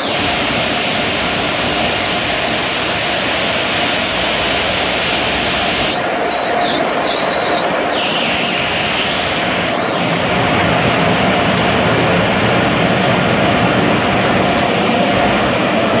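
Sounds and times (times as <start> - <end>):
air-dryer blowers whining: 0.0 - 16.0.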